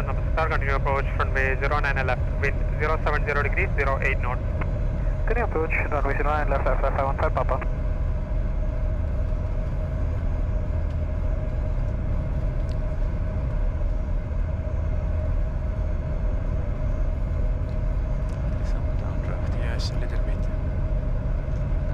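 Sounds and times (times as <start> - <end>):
airflow and engine rumble: 0.0 - 21.9
steady hum: 0.0 - 21.9.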